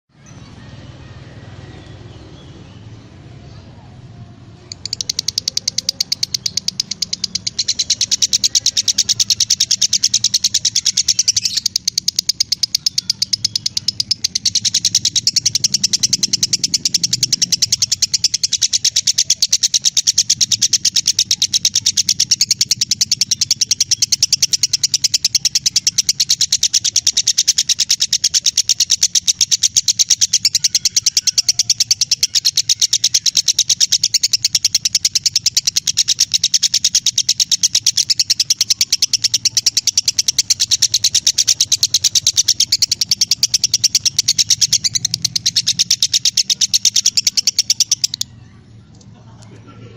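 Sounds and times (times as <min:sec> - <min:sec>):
lovebird chattering shrilly: 0:04.6 - 0:48.6.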